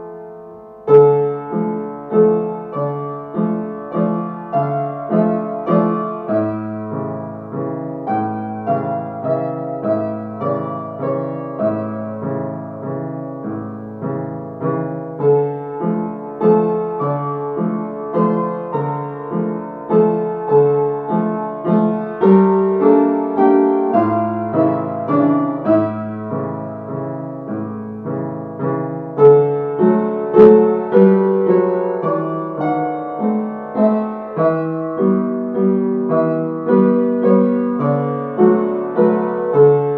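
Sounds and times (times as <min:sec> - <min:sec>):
solo upright piano: 0:00.0 - 0:39.9.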